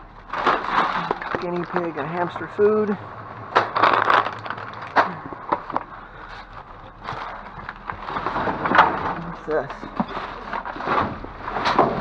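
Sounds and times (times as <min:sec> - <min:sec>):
packaging rustling and crinkling: 0:00.0 - 0:12.0
sharp knocks and clatters: 0:00.0 - 0:12.0.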